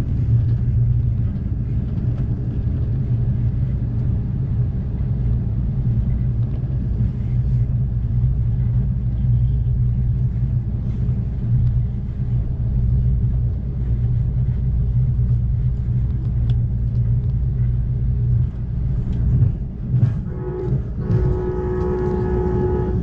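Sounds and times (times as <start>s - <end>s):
train rumbling at speed: 0.0s - 23.0s.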